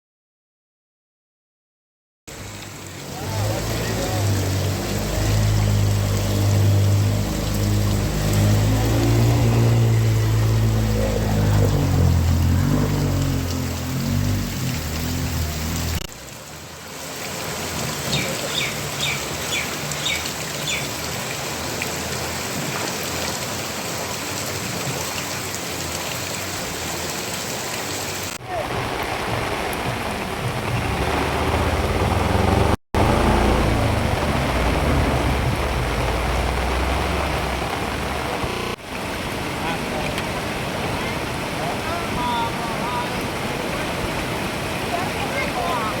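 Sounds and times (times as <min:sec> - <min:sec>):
heavy rain pouring: 0:02.3 - 0:46.0
deep rumbling wash: 0:03.0 - 0:22.5, 0:28.4 - 0:46.0.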